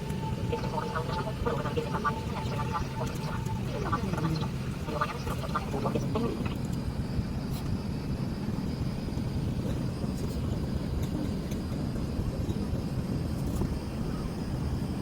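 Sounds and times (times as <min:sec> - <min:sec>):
faint high whine: 0:00.0 - 0:15.0
jet engines rumbling: 0:00.0 - 0:15.0.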